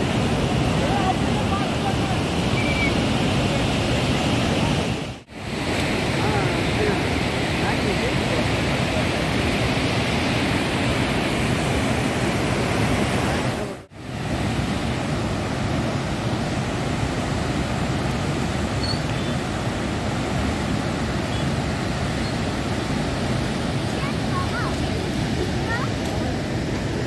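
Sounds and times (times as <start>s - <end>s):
whitewater rapids rushing: 0.0s - 27.0s.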